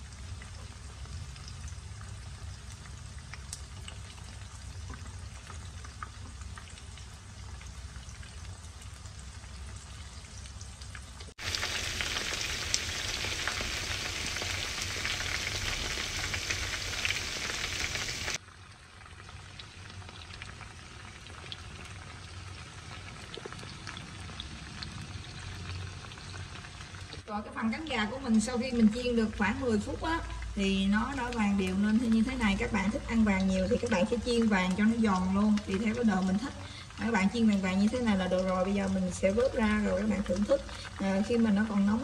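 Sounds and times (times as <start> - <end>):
deep-frying sizzle with pops: 0.0 - 42.0.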